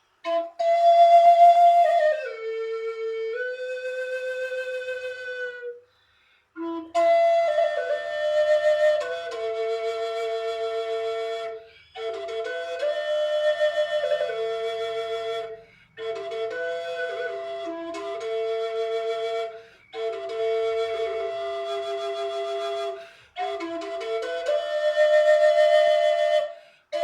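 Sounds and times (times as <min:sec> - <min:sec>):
flute-like wind instrument melody: 0:00.0 - 0:27.0.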